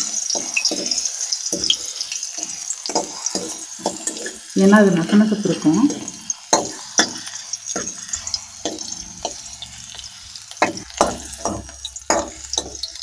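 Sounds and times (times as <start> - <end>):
spoon scraping metal pan: 0.0 - 13.0
stems sizzling in hot oil: 0.0 - 13.0.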